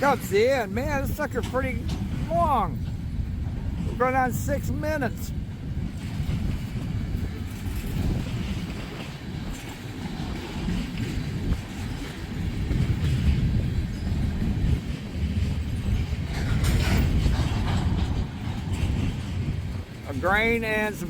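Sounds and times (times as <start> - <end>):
freight train wheels rumbling: 0.0 - 21.0
train cars rattling: 0.0 - 21.0.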